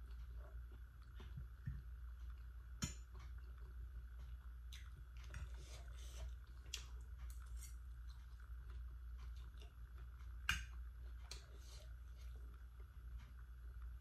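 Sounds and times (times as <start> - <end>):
person chewing noodles: 0.0 - 14.0.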